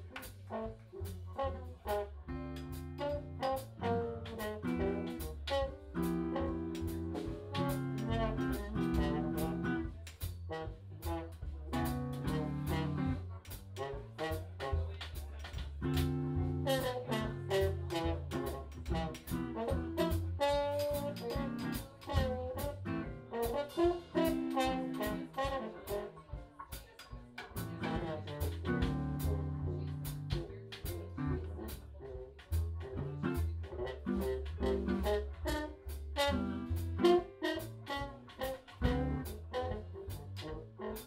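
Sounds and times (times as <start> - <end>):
jazz band playing: 0.0 - 41.0.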